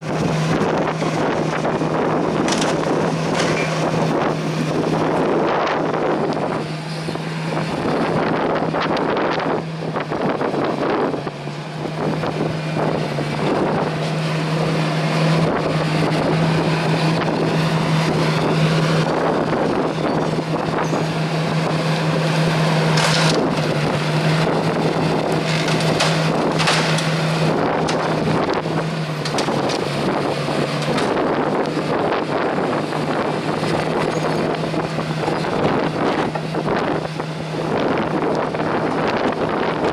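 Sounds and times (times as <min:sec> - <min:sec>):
low engine drone: 0:00.0 - 0:39.9
wind buffeting microphone: 0:00.0 - 0:39.9.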